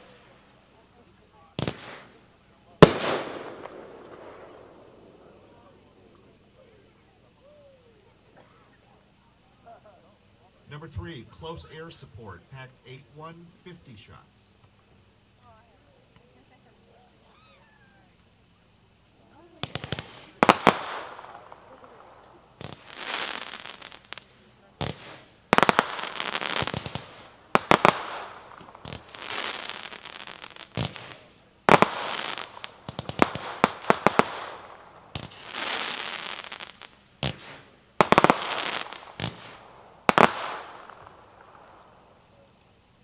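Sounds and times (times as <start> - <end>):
fireworks launch and break reports: 0.0 - 7.4, 10.6 - 14.7, 19.2 - 42.6
fireworks crackle: 0.0 - 43.0.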